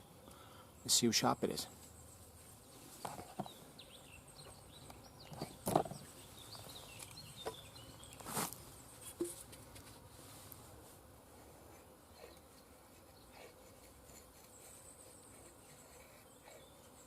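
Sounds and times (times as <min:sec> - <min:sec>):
small birds chirping: 0:00.0 - 0:09.3, 0:11.7 - 0:17.0.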